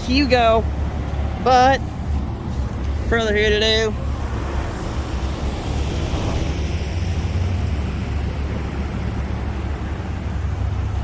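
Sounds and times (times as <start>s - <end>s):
diesel engine rumble: 0.0s - 11.0s.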